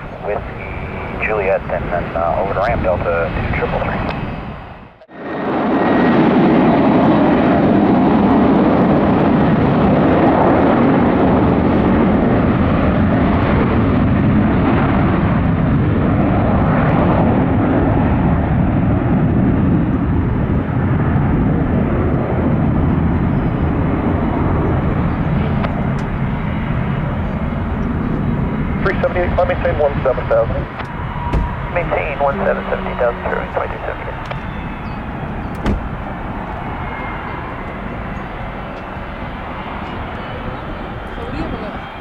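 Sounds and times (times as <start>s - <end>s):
jet airliner taking off: 0.0s - 42.0s.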